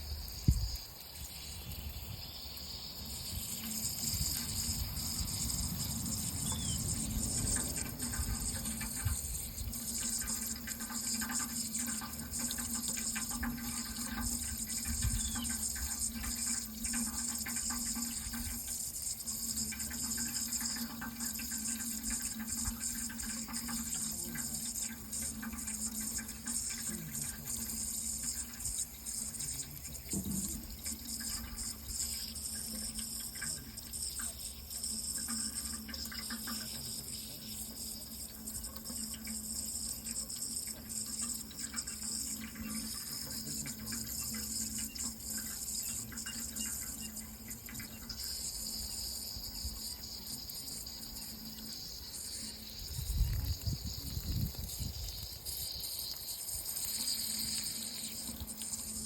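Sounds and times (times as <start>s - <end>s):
water running: 0.0s - 59.0s.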